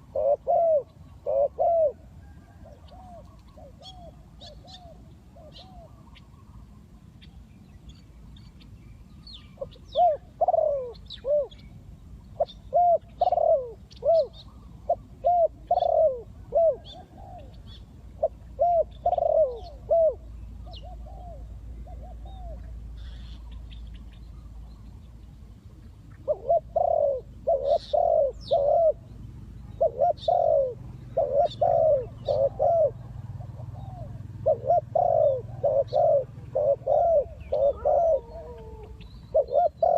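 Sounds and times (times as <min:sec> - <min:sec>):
dove cooing: 0:00.0 - 0:06.8, 0:09.6 - 0:11.7, 0:12.3 - 0:24.9, 0:25.7 - 0:39.9
small birds chirping faintly: 0:00.0 - 0:39.9.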